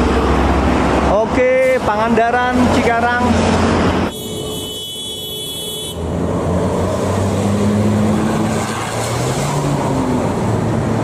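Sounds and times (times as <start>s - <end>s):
bus engine passing: 0.0s - 4.1s, 5.9s - 11.0s
road and tyre noise: 0.0s - 11.0s.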